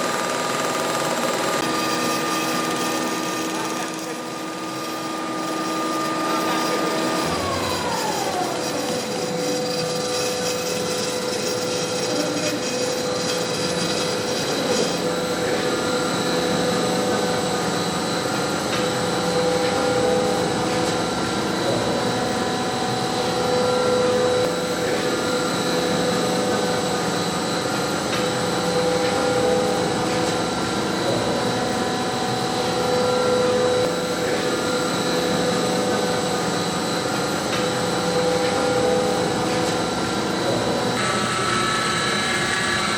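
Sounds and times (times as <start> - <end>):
factory machinery humming: 0.0 - 42.9.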